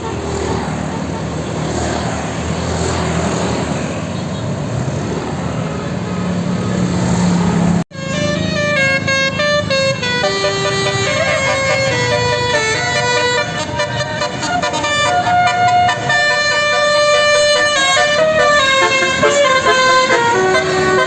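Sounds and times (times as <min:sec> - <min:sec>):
multi-tone bus horn melody: 0:00.0 - 0:06.8, 0:07.7 - 0:21.0
bus engine running: 0:00.0 - 0:21.0
road noise: 0:00.0 - 0:21.0.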